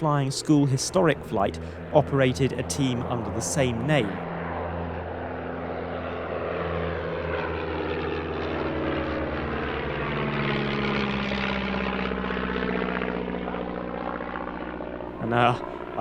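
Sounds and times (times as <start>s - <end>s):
propeller aircraft flying overhead: 0.0s - 16.0s.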